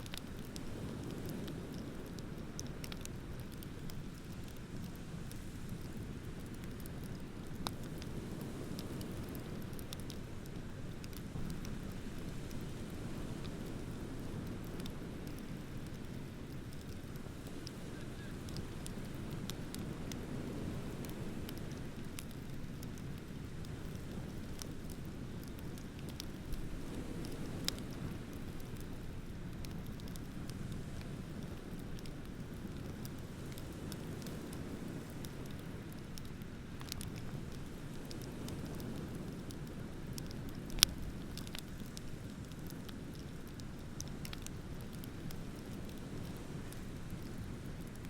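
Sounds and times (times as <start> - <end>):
bonfire crackling and popping: 0.0 - 48.0.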